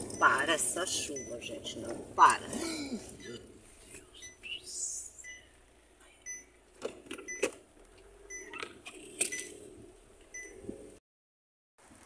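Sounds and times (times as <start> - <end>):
car interior hum: 0.0 - 11.0.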